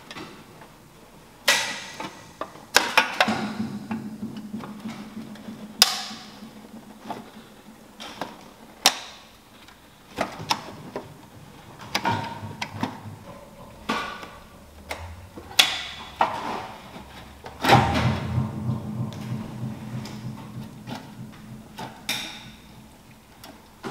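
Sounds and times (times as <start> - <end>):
plastic bottles and cans knocking: 1.4 - 9.2, 10.1 - 23.9.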